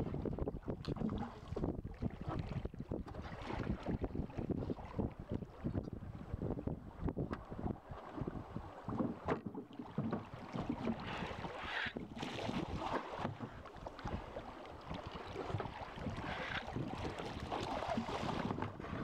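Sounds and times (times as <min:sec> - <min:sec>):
water sounds: 0:00.0 - 0:19.0
wind buffeting microphone: 0:00.0 - 0:19.0.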